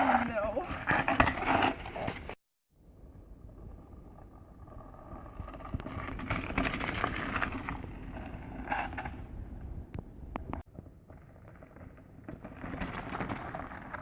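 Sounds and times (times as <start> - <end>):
bike tyres rattling over dirt: 0.0 - 2.4, 3.4 - 9.6, 10.6 - 14.0.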